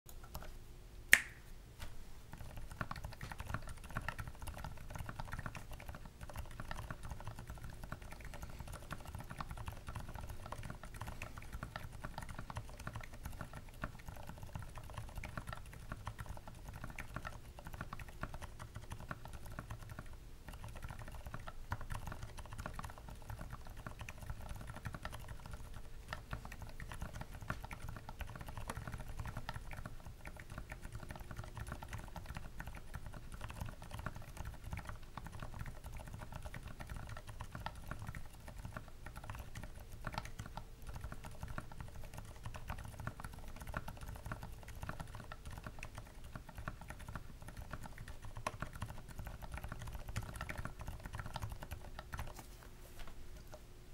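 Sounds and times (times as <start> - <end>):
fast mechanical keyboard typing: 2.3 - 52.4.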